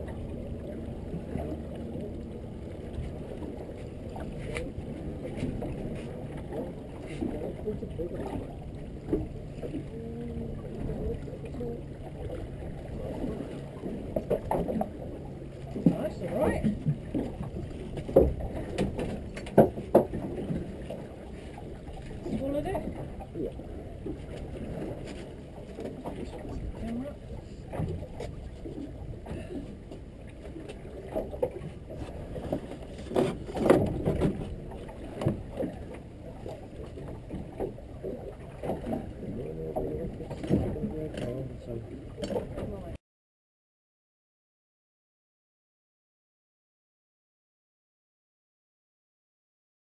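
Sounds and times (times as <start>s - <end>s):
low rumble of wind: 0.0s - 43.0s
sea: 0.0s - 43.0s
water sloshing against hull: 0.0s - 43.0s.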